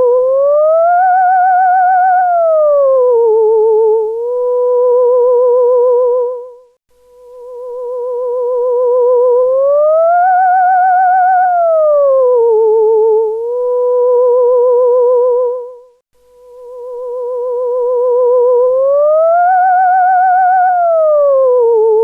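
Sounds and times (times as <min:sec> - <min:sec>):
theremin wavering tone: 0:00.0 - 0:06.6, 0:07.3 - 0:15.9, 0:16.5 - 0:22.0.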